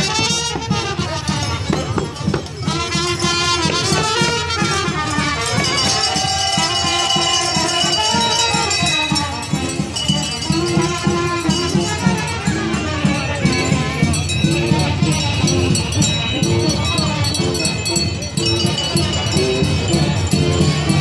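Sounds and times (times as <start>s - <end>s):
brass band playing folk tune: 0.0s - 21.0s.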